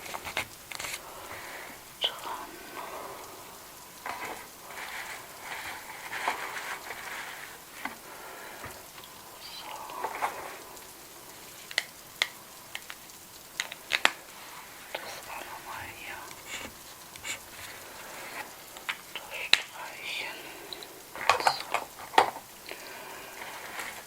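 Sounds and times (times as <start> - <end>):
rustling and crinkling of goods: 0.0 - 2.8, 3.4 - 19.8, 20.8 - 24.0.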